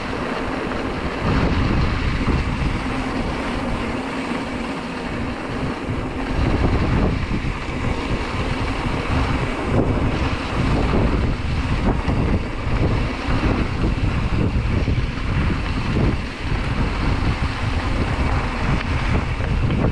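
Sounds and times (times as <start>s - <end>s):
bike rattling and knocking: 0.0s - 19.9s
bike tyres rumbling on dirt: 0.0s - 19.9s
wind buffeting microphone: 0.0s - 19.9s.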